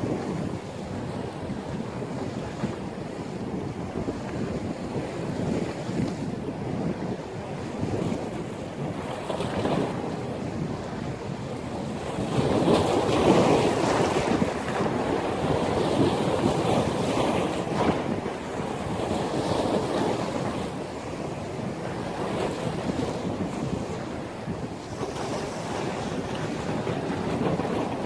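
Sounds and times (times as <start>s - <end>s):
sea waves breaking: 0.0s - 28.0s
wind blowing on microphone: 0.0s - 28.0s.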